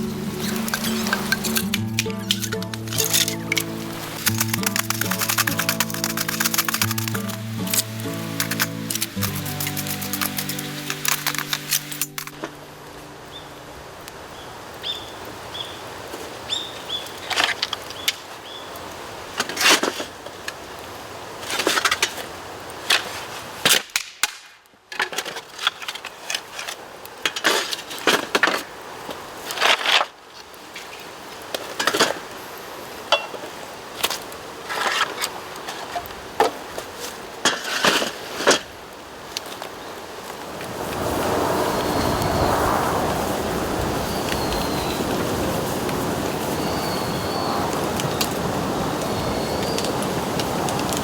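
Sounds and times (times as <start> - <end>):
burning bamboo cracking and popping: 0.3 - 12.6, 16.1 - 41.9, 44.2 - 51.0.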